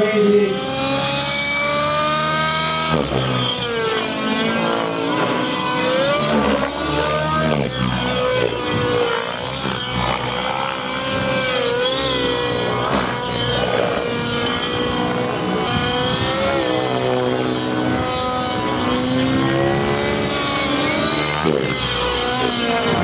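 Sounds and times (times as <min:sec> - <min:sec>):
model helicopter whining: 0:00.0 - 0:23.0.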